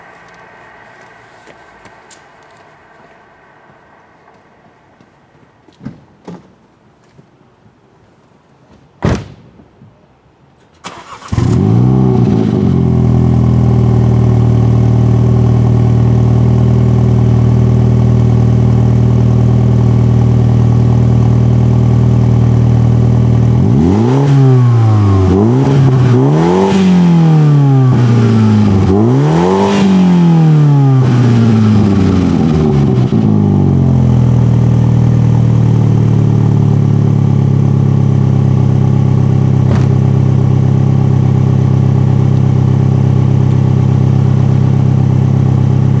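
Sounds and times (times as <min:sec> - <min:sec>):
car engine starting and idling: 0:00.0 - 0:05.8, 0:10.8 - 0:46.0
engine throttle blips: 0:00.0 - 0:05.8, 0:10.8 - 0:46.0.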